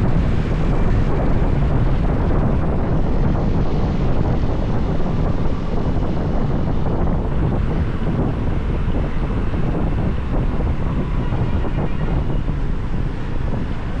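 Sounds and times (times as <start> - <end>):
motorbike road noise: 0.0 - 14.0
wind on microphone: 0.0 - 14.0.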